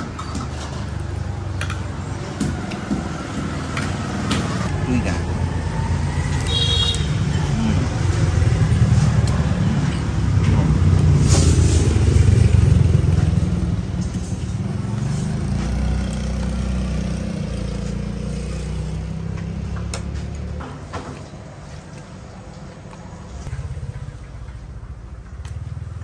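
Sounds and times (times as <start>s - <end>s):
traffic engine rumble: 0.0s - 26.0s.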